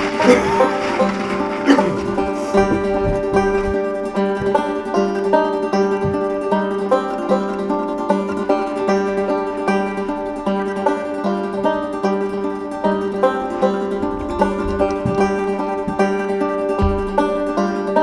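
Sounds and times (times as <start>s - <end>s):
instrumental country music: 0.0s - 18.0s.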